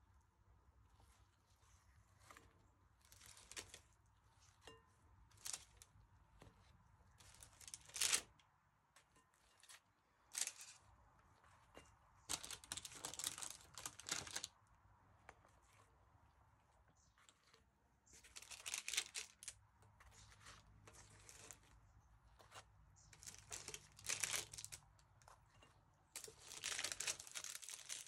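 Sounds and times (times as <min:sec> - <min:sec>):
baking paper crinkling: 0:01.0 - 0:08.3, 0:09.5 - 0:11.5, 0:12.2 - 0:14.6, 0:17.0 - 0:28.0
pastry sticks crackling: 0:01.0 - 0:08.4, 0:09.5 - 0:10.9, 0:11.7 - 0:14.6, 0:16.9 - 0:28.0.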